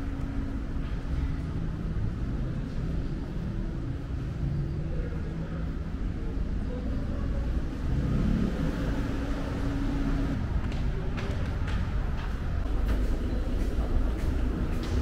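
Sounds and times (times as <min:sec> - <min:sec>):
vehicle engines humming: 0:00.0 - 0:15.0.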